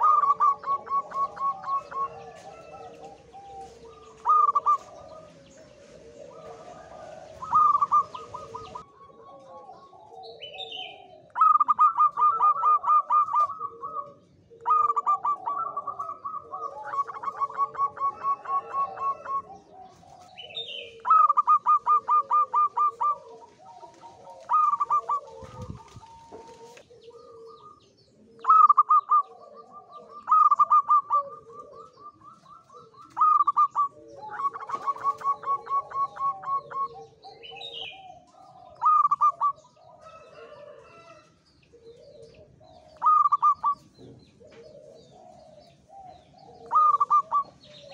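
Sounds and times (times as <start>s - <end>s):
dove cooing: 0.0s - 47.9s.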